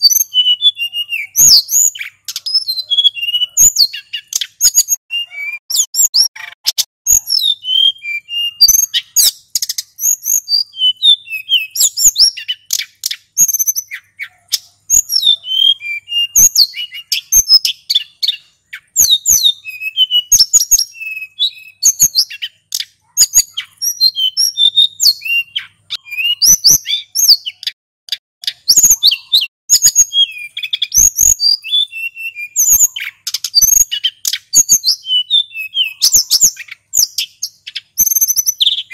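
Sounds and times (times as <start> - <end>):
bird singing rolling chirps and whistles: 0.0 - 27.8, 28.4 - 38.9.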